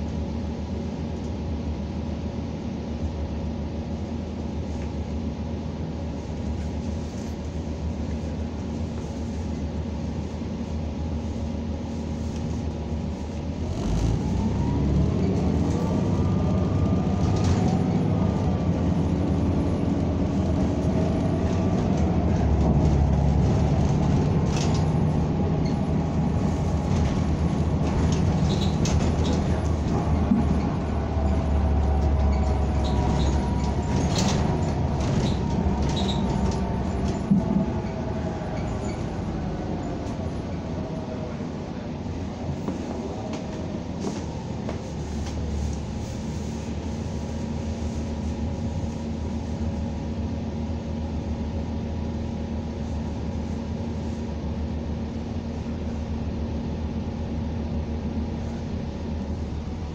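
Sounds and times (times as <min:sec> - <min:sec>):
bus drivetrain whine: 0:00.0 - 0:59.9.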